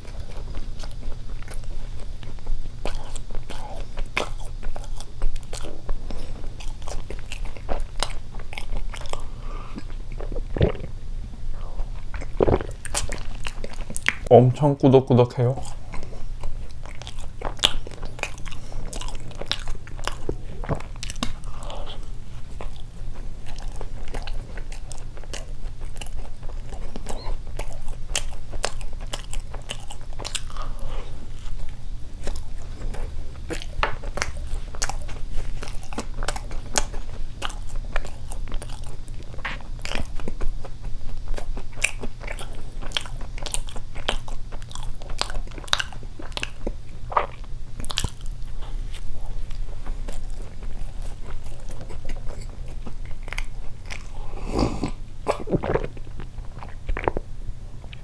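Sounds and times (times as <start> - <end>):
person chewing crunchy food: 0.0 - 14.4, 15.4 - 58.0
steady low hum: 0.0 - 58.0.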